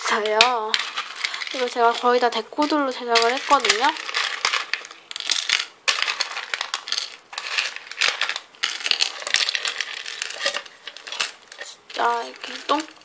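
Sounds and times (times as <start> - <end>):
small clay dishes clattering: 0.0 - 13.0.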